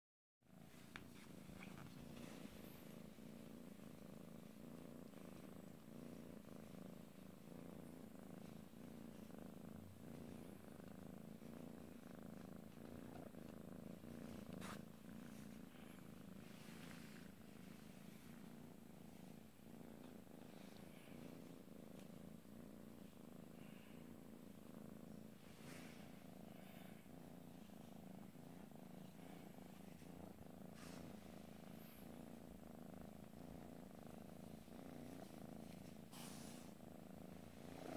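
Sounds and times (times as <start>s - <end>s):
cat purring: 0.4s - 37.9s
faint rustling of bedding: 0.5s - 37.9s.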